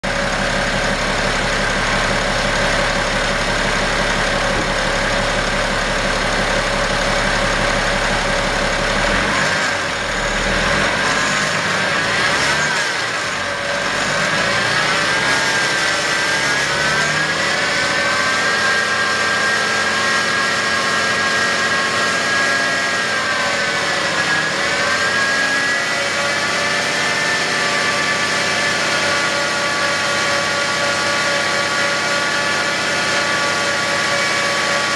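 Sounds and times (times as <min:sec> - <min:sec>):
diesel engine rumble: 0:00.0 - 0:34.9.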